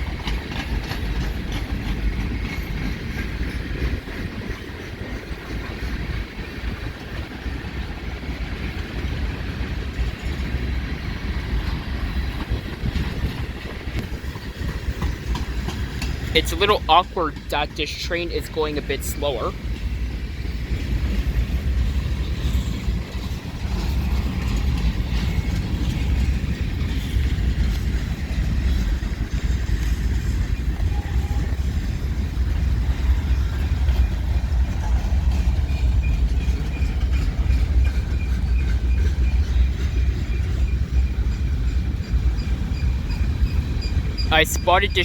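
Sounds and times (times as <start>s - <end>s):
freight train rumbling past: 0.0s - 45.0s.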